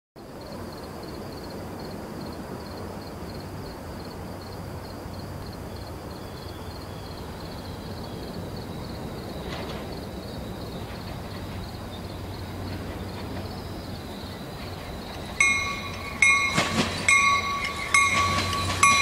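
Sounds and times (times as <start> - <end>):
crickets chirping: 0.2 - 19.0
distant train rumble: 0.2 - 19.0.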